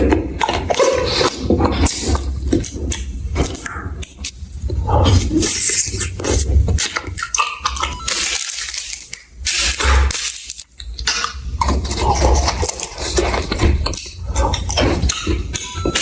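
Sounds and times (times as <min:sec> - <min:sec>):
crunching: 0:00.0 - 0:16.0
wet chewing: 0:00.0 - 0:16.0.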